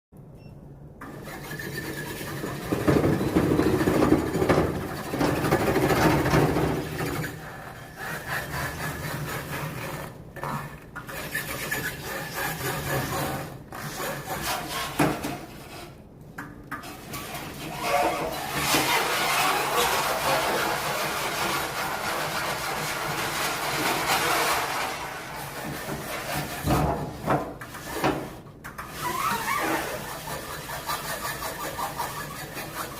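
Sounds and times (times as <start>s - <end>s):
rasping mechanical scraping: 1.0s - 16.0s, 16.8s - 32.9s.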